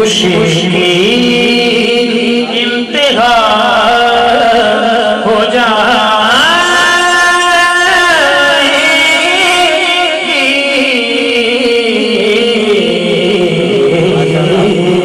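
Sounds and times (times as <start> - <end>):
man singing without words: 0.0 - 15.0.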